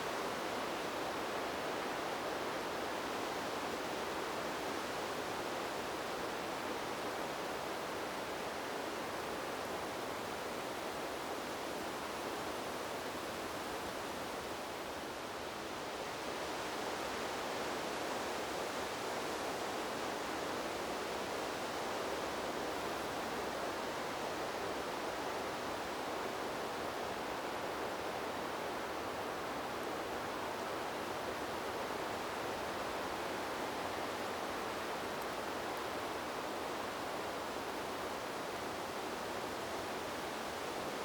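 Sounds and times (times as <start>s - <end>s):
wind blowing through trees: 0.0s - 41.0s.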